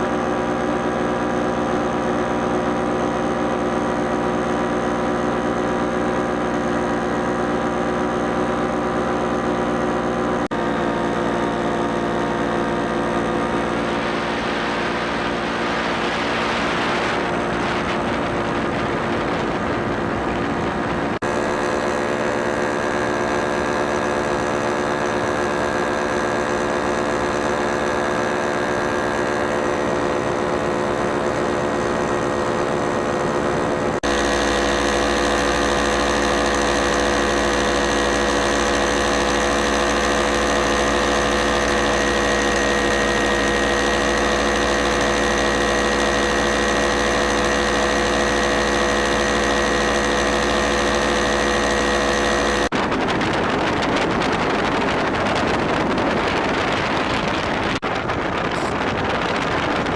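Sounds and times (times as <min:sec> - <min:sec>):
paramotor engine and propeller: 0:00.0 - 0:59.9
rough rushing noise: 0:10.5 - 0:59.9.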